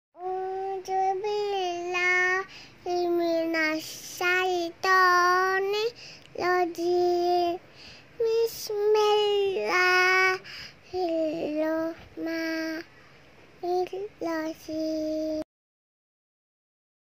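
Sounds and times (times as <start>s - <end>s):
child singing: 0.2s - 7.6s, 8.2s - 12.9s, 13.6s - 15.5s.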